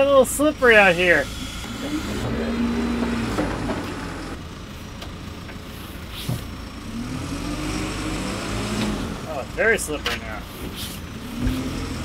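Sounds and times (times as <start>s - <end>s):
engine running and revving: 0.6s - 4.5s, 6.0s - 12.0s.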